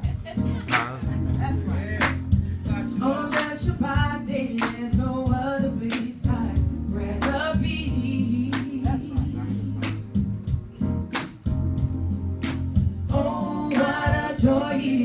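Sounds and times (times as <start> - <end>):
band with drums and bass: 0.0 - 14.7.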